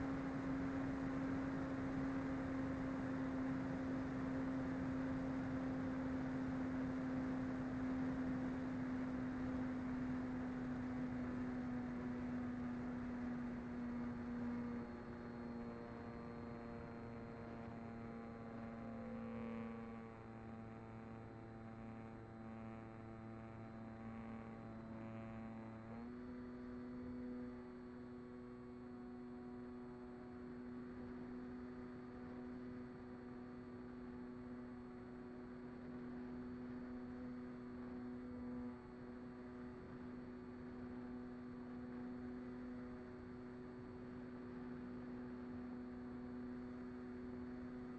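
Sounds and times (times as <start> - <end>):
electric motor and propeller droning: 0.0 - 47.9.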